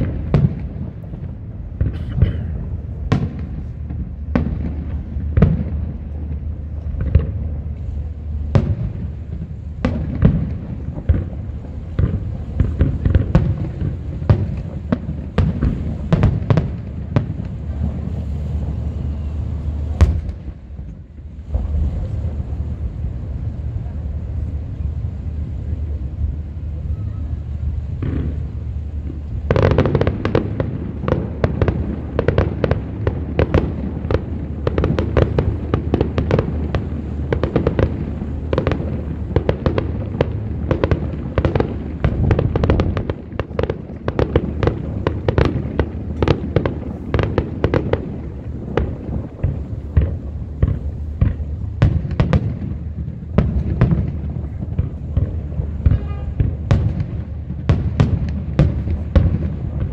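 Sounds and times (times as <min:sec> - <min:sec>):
firework bangs: 0:00.0 - 0:59.9
low rumble: 0:00.0 - 0:59.9.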